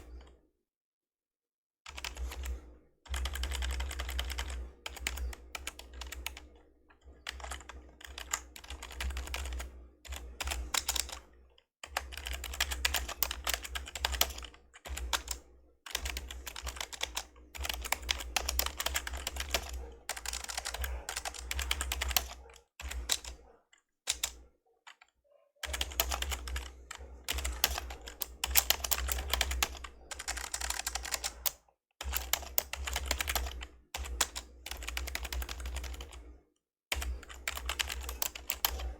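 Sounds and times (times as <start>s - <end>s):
fast typing on a keyboard: 1.9s - 6.6s, 7.2s - 23.4s, 24.1s - 24.4s, 25.6s - 36.2s, 36.9s - 38.9s.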